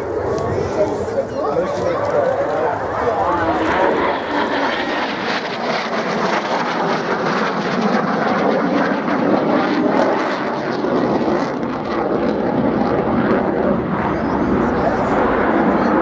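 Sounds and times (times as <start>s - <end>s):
airplane engine: 0.0s - 16.0s.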